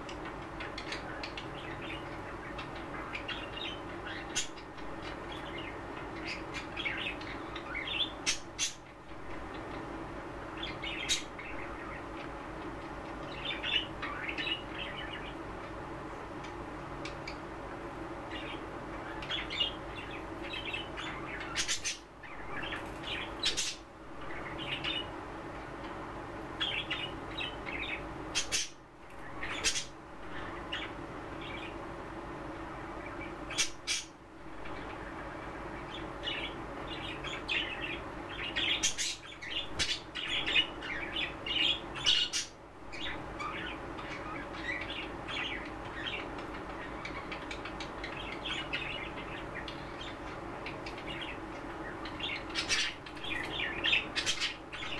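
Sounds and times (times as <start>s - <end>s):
budgerigars chirping: 0.0s - 8.8s, 10.6s - 12.3s, 13.2s - 15.7s, 18.3s - 25.1s, 26.6s - 31.8s, 33.0s - 54.9s
low background hum: 0.0s - 54.9s.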